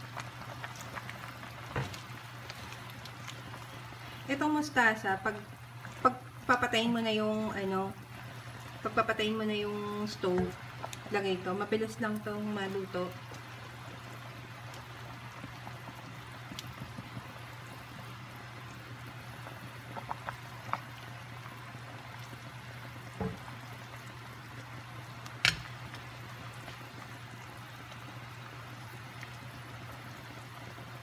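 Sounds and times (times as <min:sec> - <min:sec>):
broth bubbling in a pot: 0:00.0 - 0:31.0.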